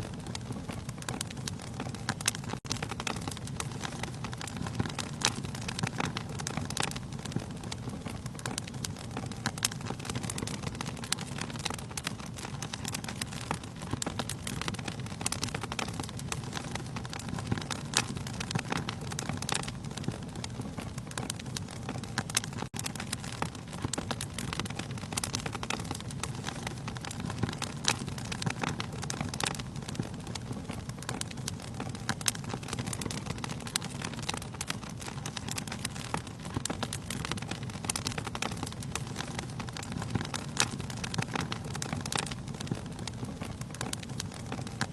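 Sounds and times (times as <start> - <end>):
logs crackling and popping: 0.0 - 44.9
wood fire rumbling: 0.0 - 44.9.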